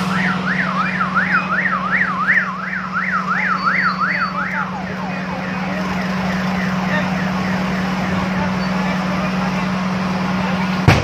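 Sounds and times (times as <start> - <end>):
siren yelping: 0.0 - 9.4.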